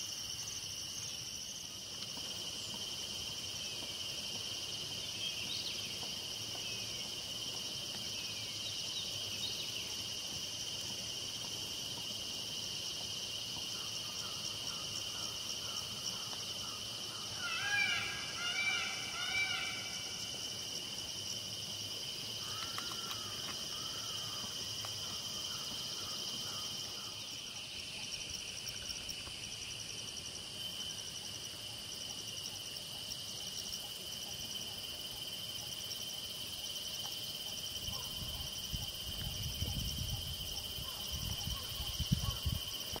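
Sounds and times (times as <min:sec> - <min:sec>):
insect chorus buzzing and trilling: 0:00.0 - 0:43.0.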